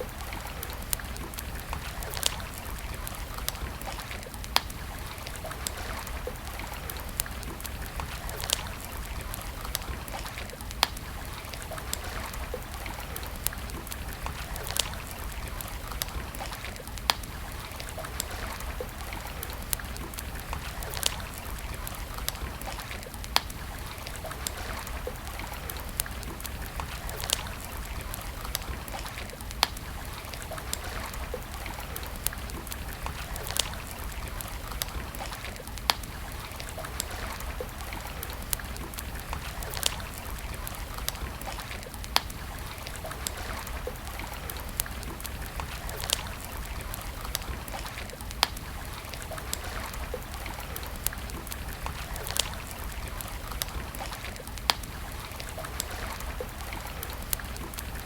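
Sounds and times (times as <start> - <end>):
stream water flowing: 0.0 - 58.0
wood fire crackling: 0.0 - 58.0.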